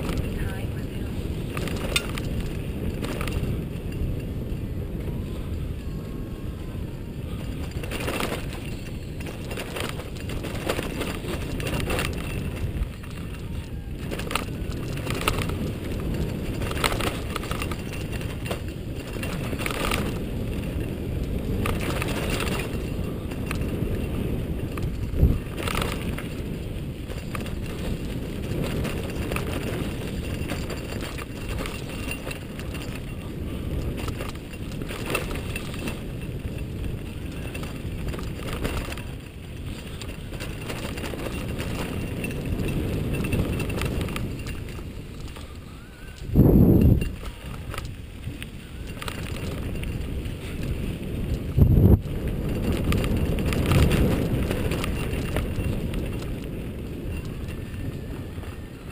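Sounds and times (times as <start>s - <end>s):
bike rattling over bumps: 0.0s - 58.9s
bike tyres on dirt and stones: 0.0s - 58.9s
wind rumble on microphone: 0.0s - 58.9s.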